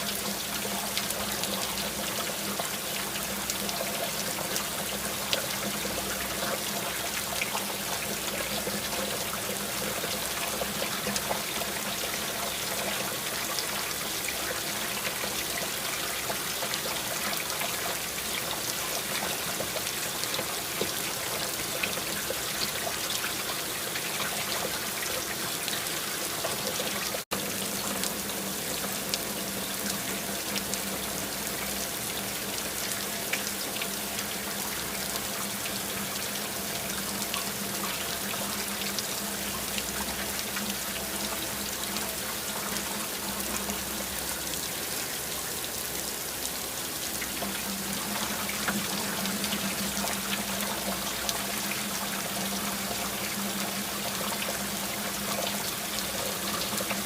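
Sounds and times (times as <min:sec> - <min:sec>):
runoff water trickling: 0:00.0 - 0:57.0
steady rain: 0:00.0 - 0:57.0.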